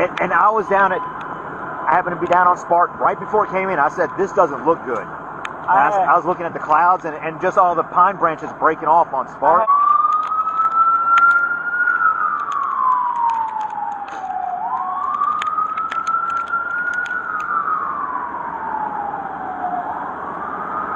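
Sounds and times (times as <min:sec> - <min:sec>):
emergency vehicle siren wailing: 0:00.0 - 0:20.9.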